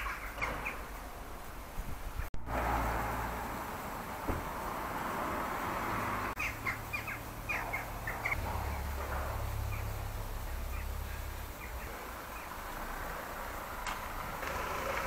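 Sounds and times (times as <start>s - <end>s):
birds chirping: 0.0s - 2.3s, 3.4s - 15.0s.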